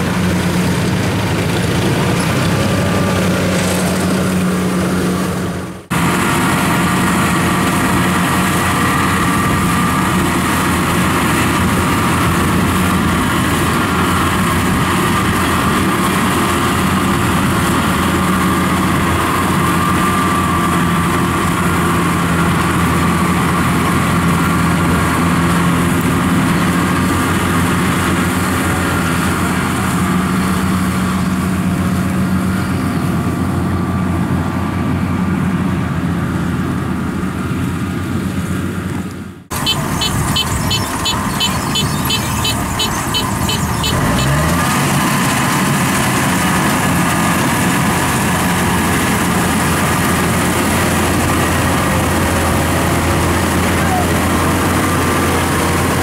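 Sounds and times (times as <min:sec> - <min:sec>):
harvester engines running: 0:00.0 - 0:56.0.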